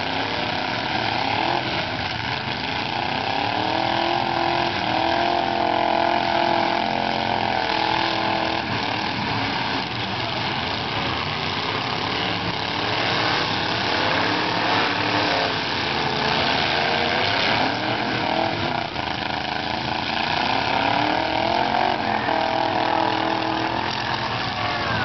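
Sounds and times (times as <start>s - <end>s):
truck engines revving hard: 0.0s - 25.0s.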